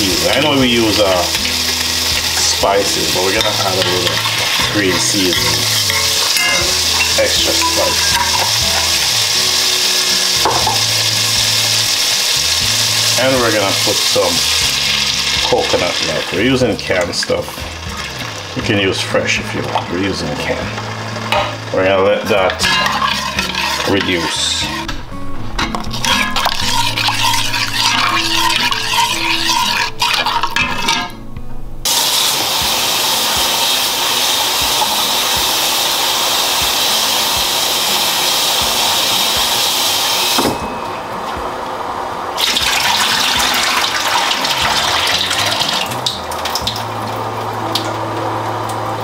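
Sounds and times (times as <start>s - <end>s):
faucet running: 0.0s - 21.8s, 25.8s - 31.0s, 31.9s - 40.5s, 42.4s - 48.0s
background music: 0.0s - 49.0s.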